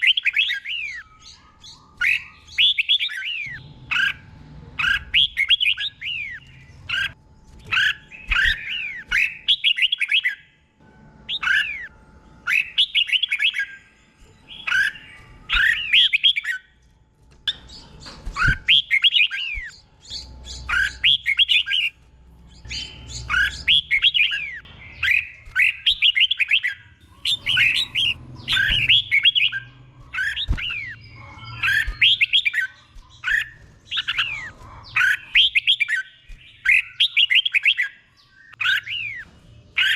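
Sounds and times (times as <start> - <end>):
bird singing whistled phrases: 0.0 - 4.2, 4.8 - 10.4, 14.5 - 16.7, 18.4 - 21.9, 22.6 - 39.9.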